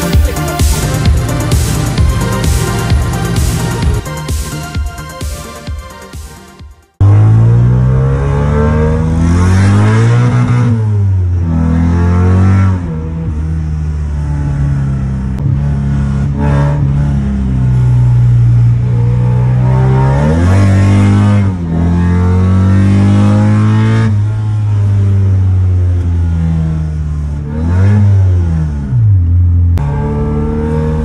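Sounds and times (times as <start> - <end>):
car engine accelerating: 0.0 - 6.2, 6.9 - 31.0.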